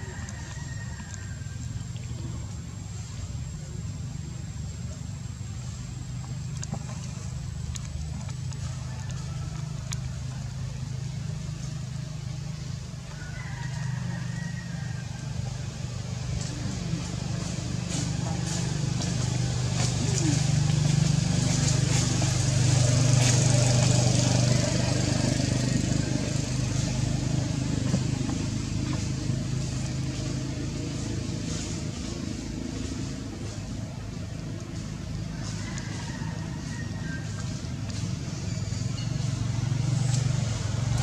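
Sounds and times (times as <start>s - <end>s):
low engine drone: 0.0s - 41.0s.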